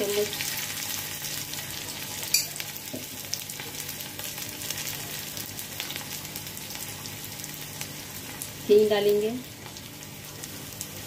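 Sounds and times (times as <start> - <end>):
food sizzling in hot ghee: 0.0 - 11.0.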